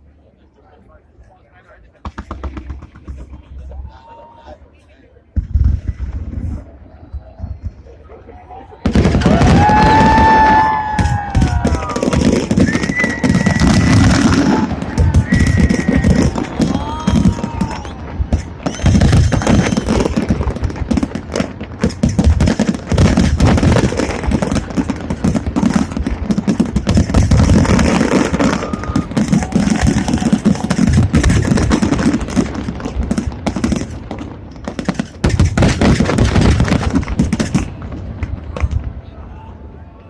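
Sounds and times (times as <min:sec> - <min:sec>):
fireworks bangs and crackles: 0:02.0 - 0:03.9, 0:05.3 - 0:08.1, 0:08.8 - 0:39.1.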